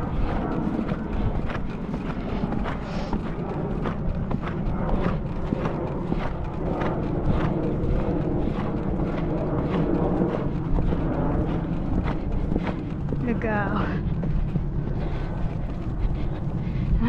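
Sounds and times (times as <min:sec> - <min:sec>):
horse hoofbeats: 0:00.0 - 0:17.0
steady low rumble: 0:00.0 - 0:17.0.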